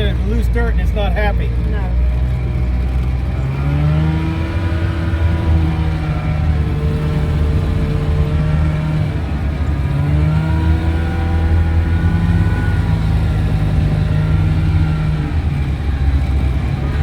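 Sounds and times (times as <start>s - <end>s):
small truck engine running: 0.0s - 17.0s.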